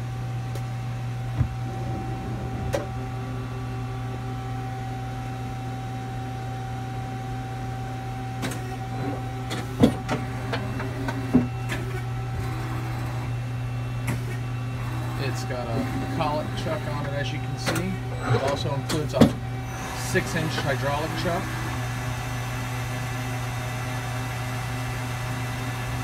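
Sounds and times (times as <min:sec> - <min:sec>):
lathe machine hum: 0:00.0 - 0:26.0
lathe whine: 0:00.0 - 0:26.0.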